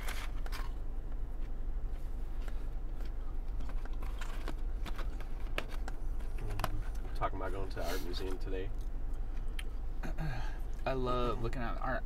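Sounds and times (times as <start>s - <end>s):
car low hum: 0.0s - 12.0s.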